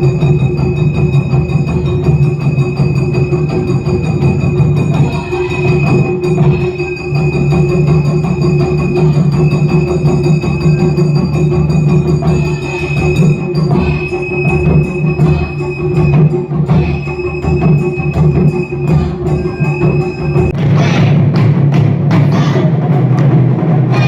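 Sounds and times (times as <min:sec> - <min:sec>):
steady held tones: 0:00.0 - 0:24.0
taiko drum ensemble: 0:00.0 - 0:24.0.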